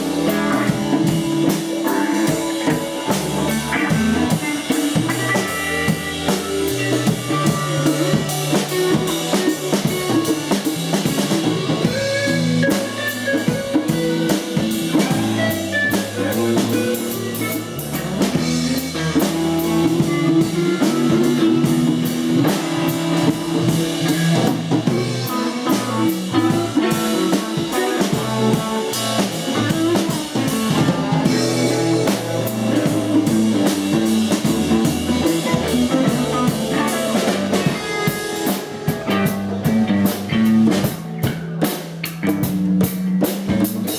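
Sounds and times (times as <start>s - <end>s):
bass guitar: 0.0s - 43.9s
drum kit beat: 0.0s - 43.9s
electric guitar: 0.0s - 43.9s.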